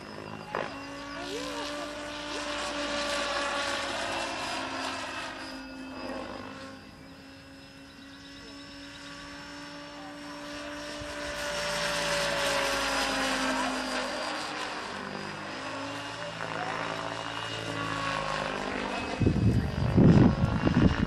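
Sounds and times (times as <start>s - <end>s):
model helicopter rotor whine: 0.0s - 21.0s.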